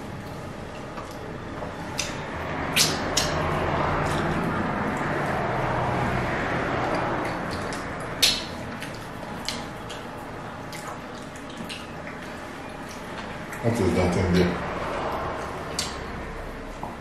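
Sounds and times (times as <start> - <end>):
wet eating clicks and smacks: 0.2 - 16.3.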